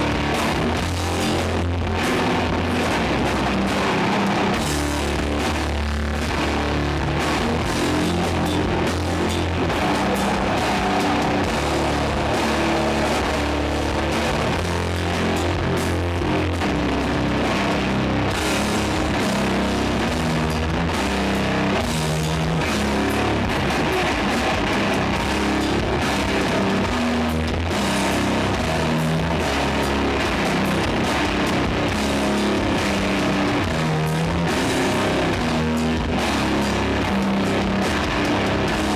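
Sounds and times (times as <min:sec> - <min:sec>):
live doom metal band playing: 0:00.0 - 0:38.9.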